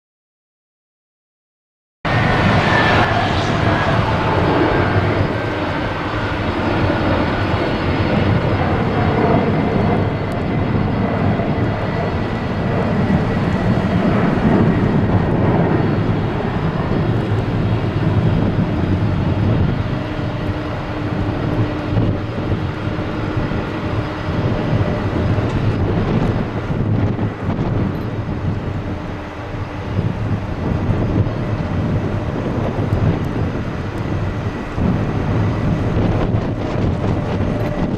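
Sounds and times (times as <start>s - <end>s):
jet engine high whine: 2.1s - 37.9s
jet engines rumbling: 2.1s - 37.9s.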